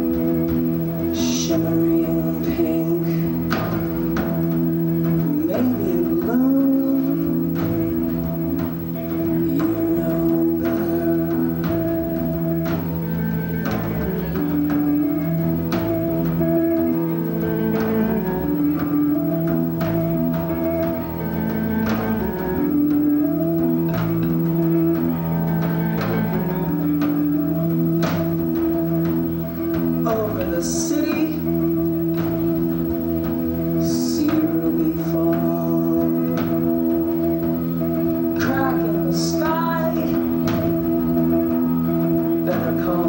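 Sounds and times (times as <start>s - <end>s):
electric guitar ringing notes: 0.0s - 43.0s.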